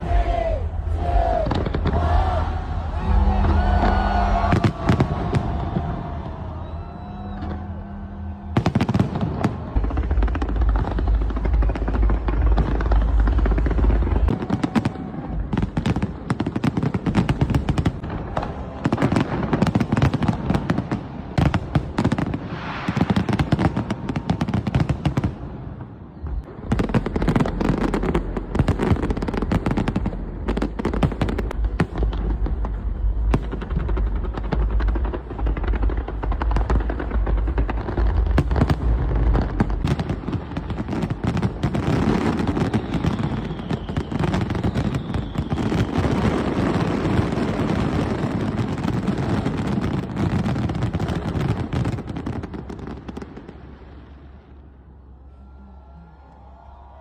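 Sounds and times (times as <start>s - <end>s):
fireworks bangs and crackles: 0.0s - 55.2s.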